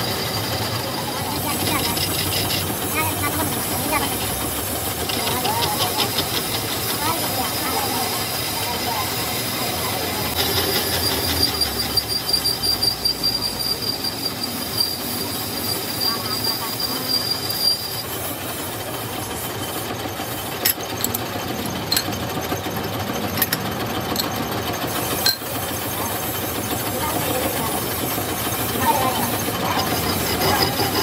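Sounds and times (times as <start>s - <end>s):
cutting tool squealing: 0.0s - 31.0s
metal lathe running: 0.0s - 31.0s.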